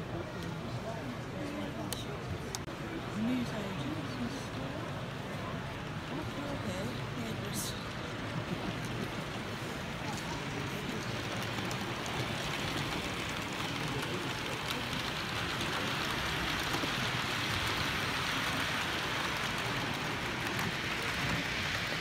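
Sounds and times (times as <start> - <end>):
hissing hall ambience: 0.0 - 22.0
model trains running: 0.0 - 22.0.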